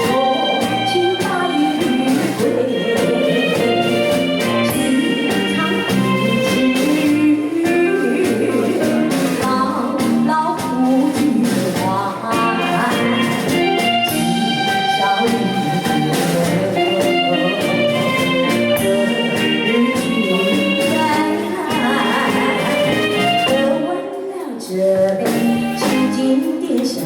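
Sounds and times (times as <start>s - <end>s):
guitar and drum backing music: 0.0s - 27.0s.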